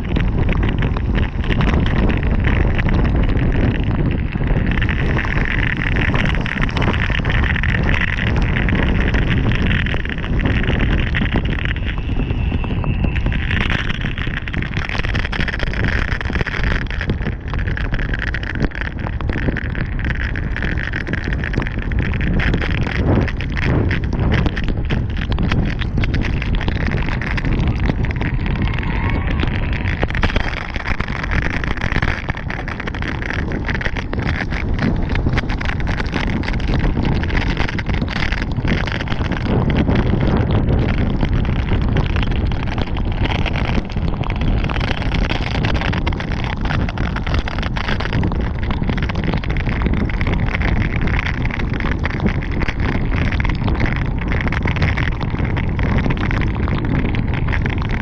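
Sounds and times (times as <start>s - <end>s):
rain hissing: 0.0s - 58.0s
wind rushing over microphone: 0.0s - 58.0s.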